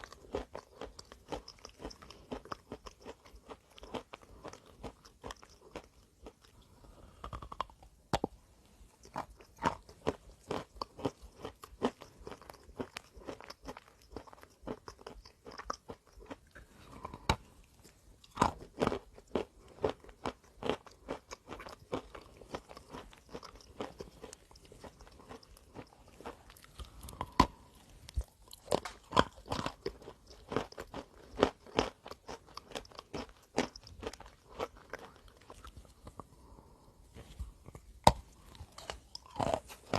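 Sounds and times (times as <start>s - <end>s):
person crunching hard food: 0.0s - 8.4s, 9.0s - 39.9s.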